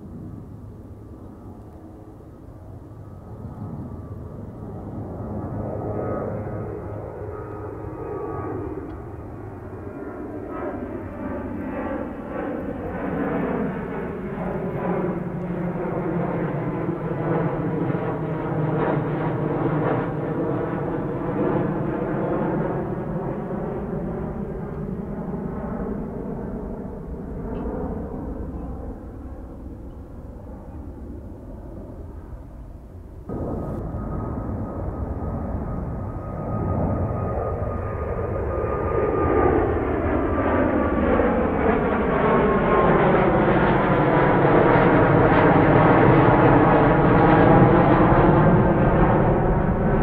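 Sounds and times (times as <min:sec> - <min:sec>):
jet engines passing overhead: 0:00.0 - 0:50.0.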